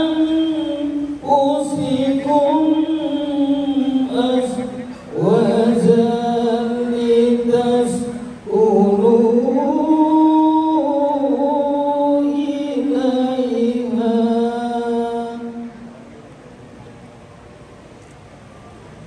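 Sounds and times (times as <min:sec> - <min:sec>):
person reciting in melodic chant: 0:00.0 - 0:16.3.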